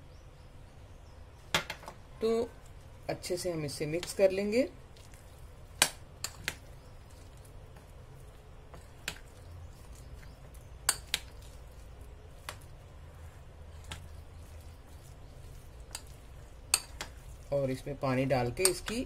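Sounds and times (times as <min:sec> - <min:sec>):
spoon stirring thick batter: 0:02.0 - 0:19.0.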